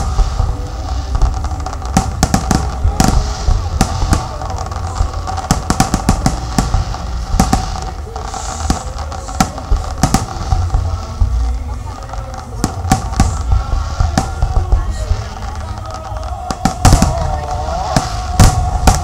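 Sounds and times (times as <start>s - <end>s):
fireworks bangs and crackles: 0.0s - 19.0s
low rumble: 0.0s - 19.0s.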